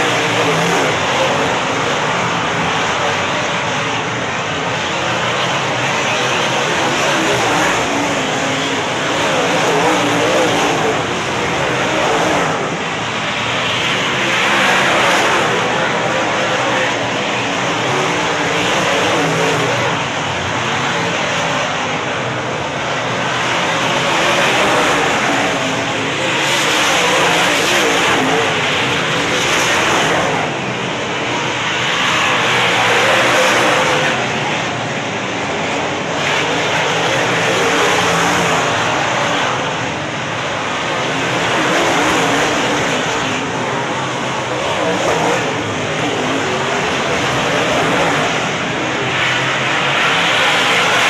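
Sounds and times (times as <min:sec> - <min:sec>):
race car engines passing: 0:00.0 - 0:51.0.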